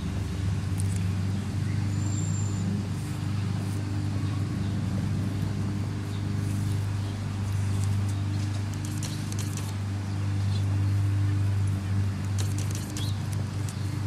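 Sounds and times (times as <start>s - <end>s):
low mechanical motor hum: 0.0s - 14.0s.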